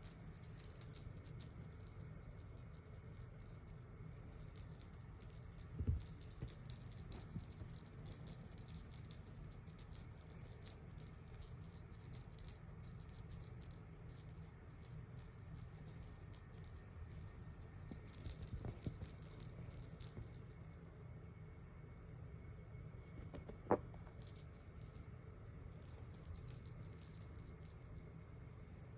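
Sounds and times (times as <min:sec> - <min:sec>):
cat toy jingling: 0:00.0 - 0:20.9, 0:24.2 - 0:28.9.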